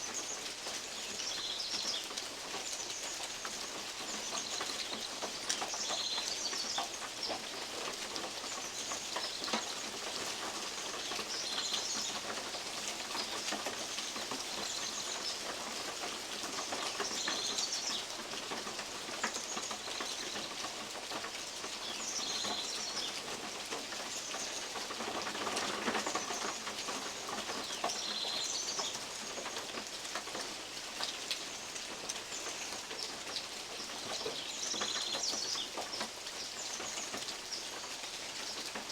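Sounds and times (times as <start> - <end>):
rain in trees: 0.0 - 38.9.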